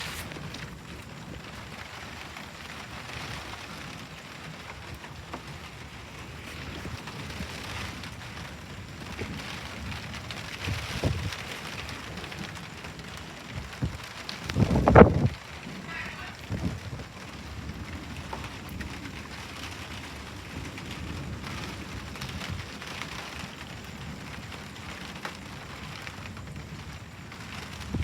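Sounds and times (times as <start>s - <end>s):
steady rainfall: 0.0s - 28.0s
wind rumbling on microphone: 0.0s - 28.0s.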